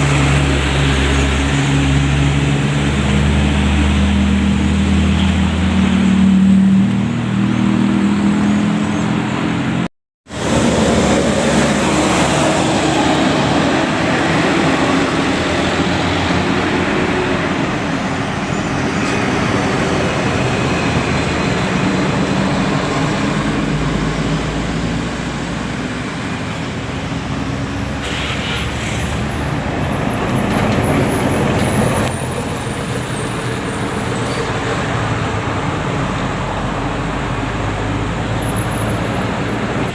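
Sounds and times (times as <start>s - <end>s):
buses and trucks passing: 0.0s - 39.9s
tyre and road noise: 0.0s - 39.9s.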